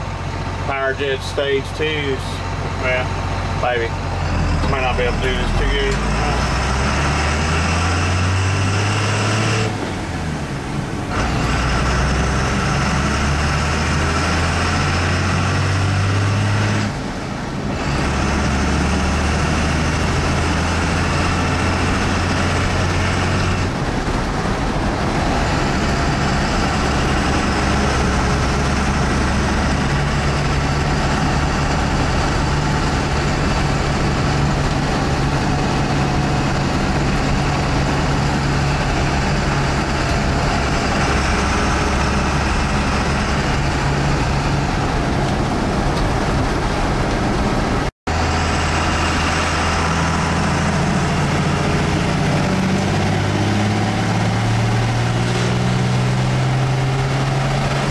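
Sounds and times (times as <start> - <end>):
diesel truck engine pulling: 0.0 - 57.9
gear changes: 0.0 - 57.9.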